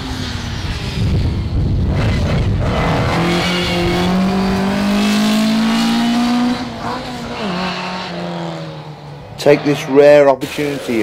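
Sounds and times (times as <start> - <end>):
car engine revving under load: 0.0 - 10.9.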